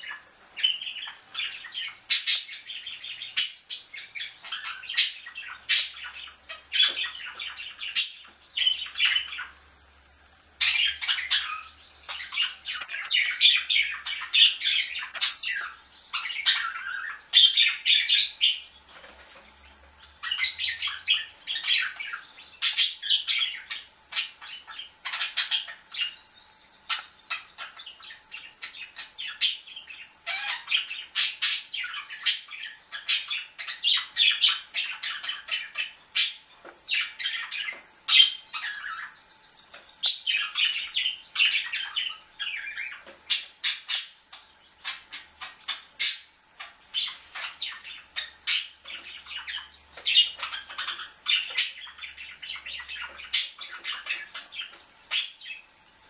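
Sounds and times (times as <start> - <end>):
caged birds calling: 0.0 - 56.0.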